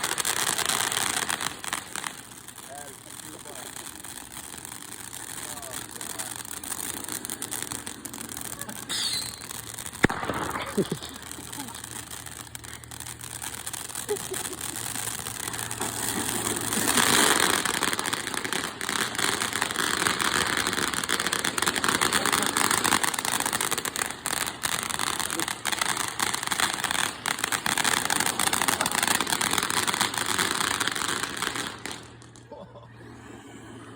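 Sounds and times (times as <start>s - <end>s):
firework hissing and crackling: 0.0s - 33.9s.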